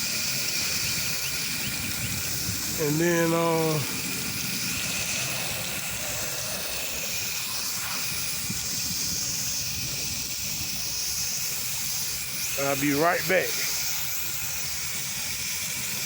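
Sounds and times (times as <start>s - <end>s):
low machine hum: 0.0s - 16.0s
pressure washer spray hissing: 0.0s - 16.0s.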